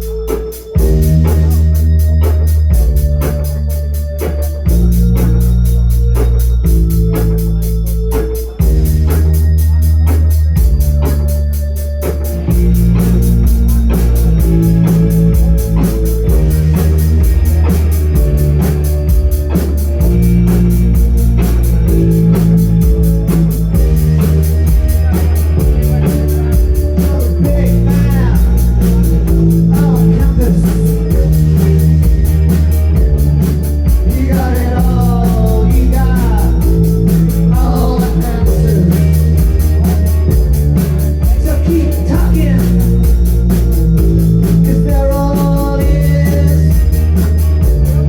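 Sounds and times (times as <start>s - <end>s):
bass line: 0.0s - 48.0s
keyboard chords: 0.0s - 48.0s
steady drum beat: 0.0s - 48.0s.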